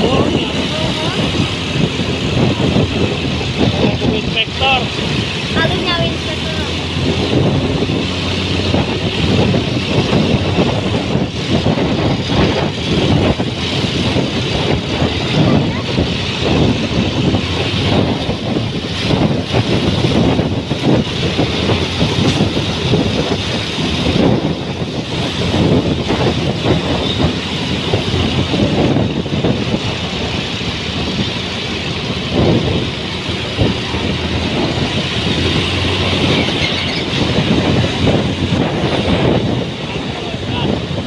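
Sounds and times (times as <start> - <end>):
motorcycle road and engine rumble: 0.0 - 41.0
wind buffeting microphone: 0.0 - 41.0.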